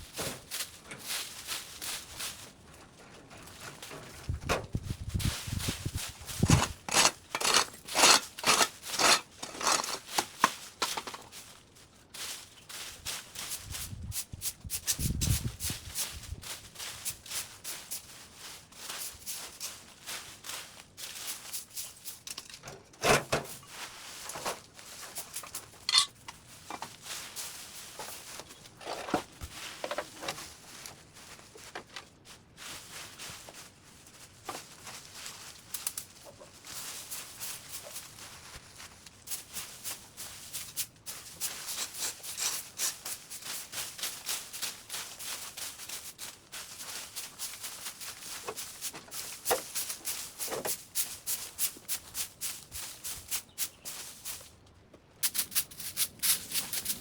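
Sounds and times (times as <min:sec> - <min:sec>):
rustling and scraping: 0:00.0 - 0:57.0.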